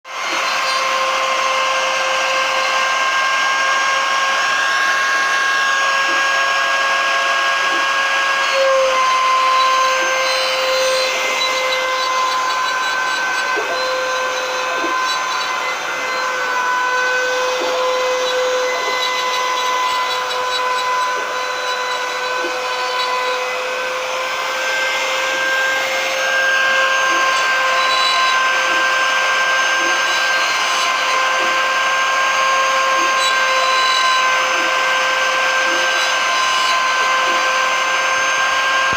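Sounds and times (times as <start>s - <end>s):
router spindle motor whining: 0.0s - 38.9s.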